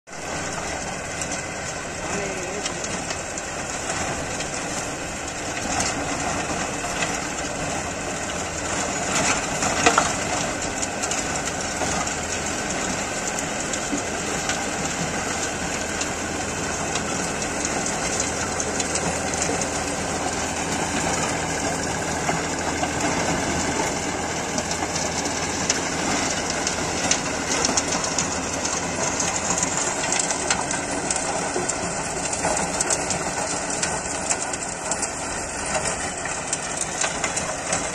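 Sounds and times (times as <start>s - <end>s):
tractor diesel engine under load: 0.0s - 37.9s.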